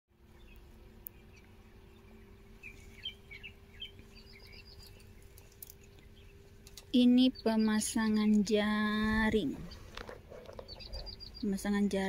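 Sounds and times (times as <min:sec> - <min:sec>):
faint bird chirps: 0:00.2 - 0:12.0
low steady hum: 0:00.2 - 0:12.0.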